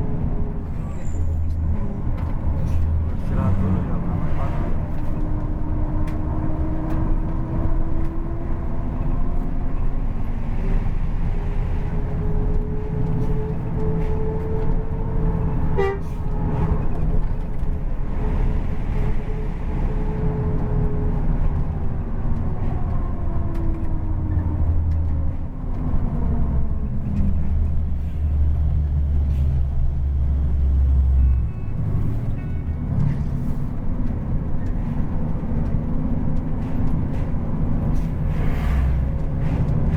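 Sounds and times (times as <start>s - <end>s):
bus engine with racing exhaust: 0.0s - 39.9s.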